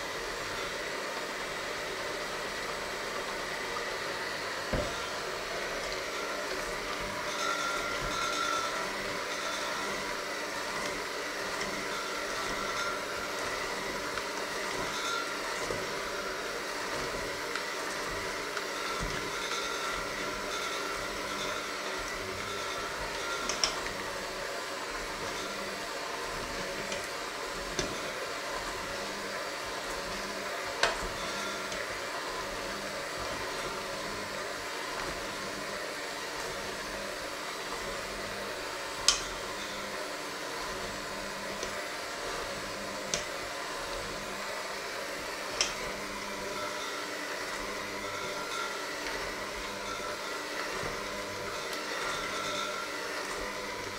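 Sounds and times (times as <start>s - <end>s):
electric hand mixer running: 0.0s - 53.9s.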